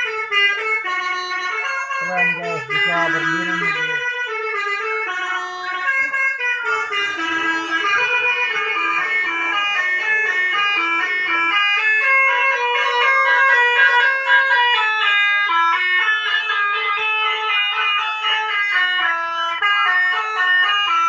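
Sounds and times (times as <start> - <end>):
bus horn playing a tune: 0.0 - 21.0.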